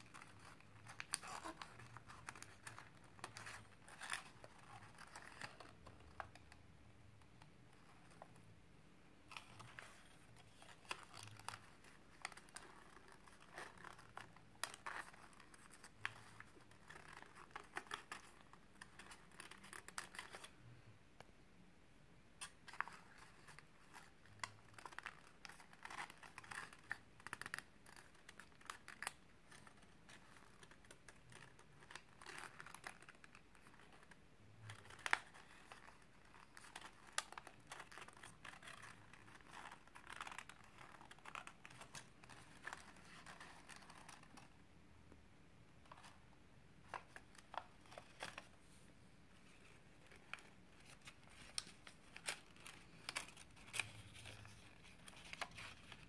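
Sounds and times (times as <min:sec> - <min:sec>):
paper rustling and crinkling: 0:00.0 - 0:06.5, 0:09.3 - 0:20.6, 0:22.4 - 0:44.6, 0:46.8 - 0:56.0.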